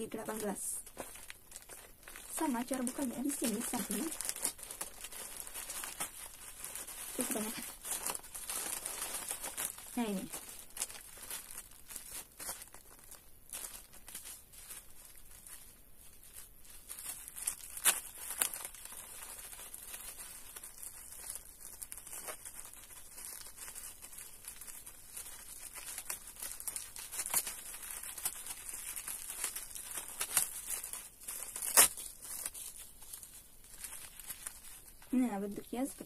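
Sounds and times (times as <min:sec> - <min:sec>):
plastic packaging crinkling: 0:00.0 - 0:36.0.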